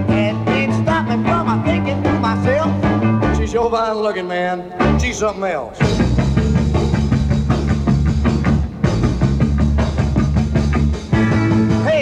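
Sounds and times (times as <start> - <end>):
drum kit beat: 0.0 - 3.7, 4.8 - 12.0
rock band playing: 0.0 - 4.0, 4.6 - 12.0.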